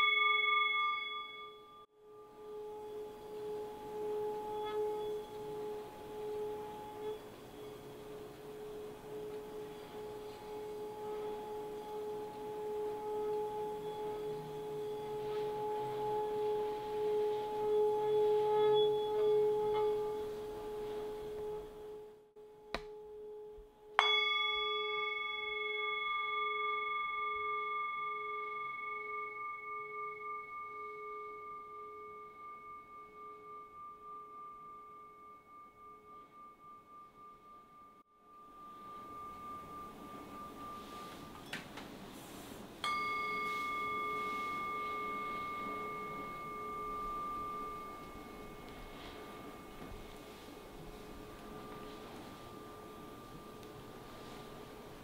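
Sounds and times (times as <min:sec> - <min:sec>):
singing bowl humming: 0:00.0 - 0:55.0.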